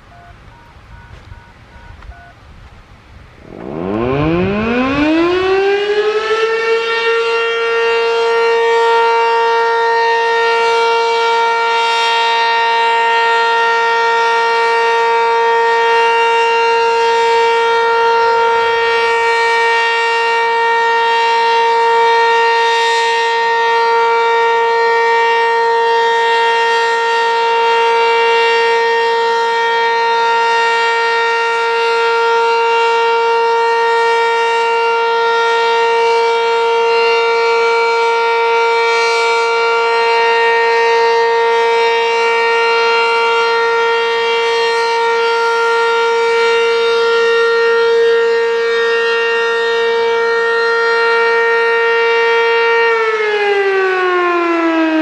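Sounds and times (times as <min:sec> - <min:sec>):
civil defense siren: 0:00.0 - 0:55.0.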